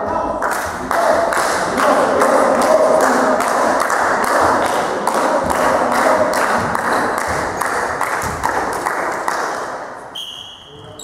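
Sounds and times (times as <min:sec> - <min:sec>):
spectators clapping in rhythm: 0:00.0 - 0:10.1.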